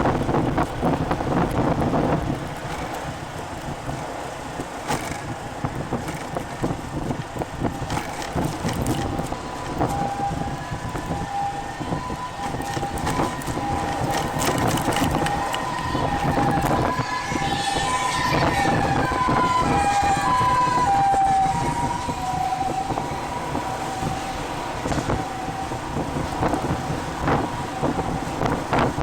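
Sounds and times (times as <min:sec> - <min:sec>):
road traffic: 0:00.0 - 0:29.0
wind buffeting microphone: 0:00.0 - 0:29.0.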